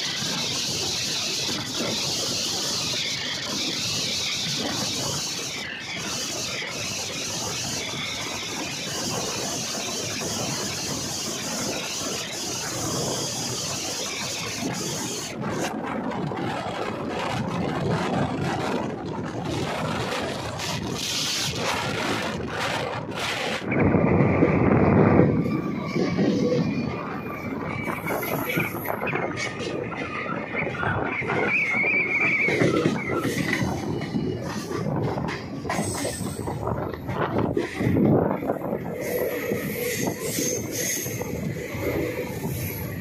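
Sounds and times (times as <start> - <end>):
train wheels on rails: 0.0 - 43.0.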